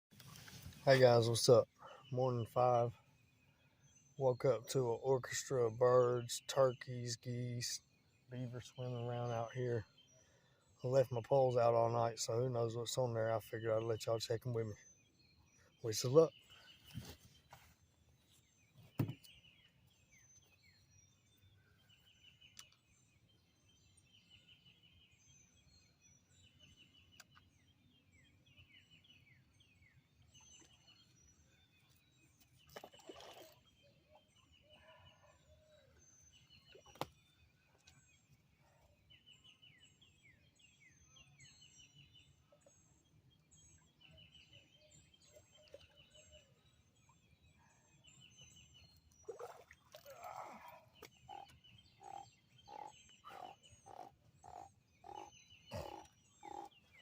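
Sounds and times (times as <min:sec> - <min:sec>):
birds chirping and trilling: 0:00.1 - 0:57.0.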